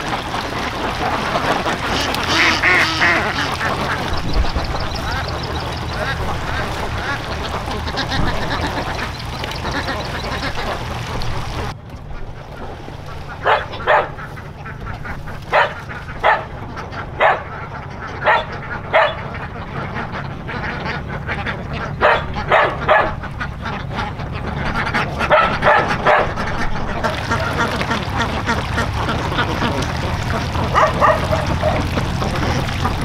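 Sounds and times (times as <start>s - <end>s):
ducks quacking: 0.0s - 33.0s.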